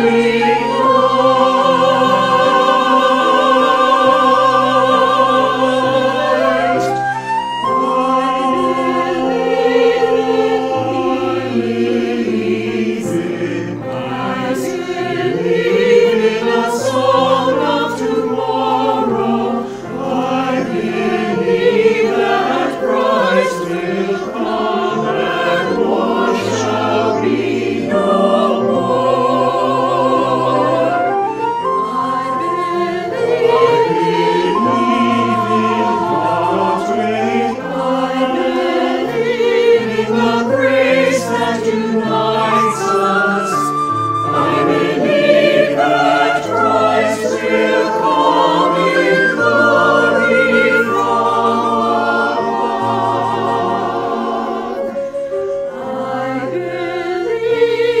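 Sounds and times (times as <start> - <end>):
choir singing in harmony: 0.0 - 58.0
flute: 0.0 - 58.0.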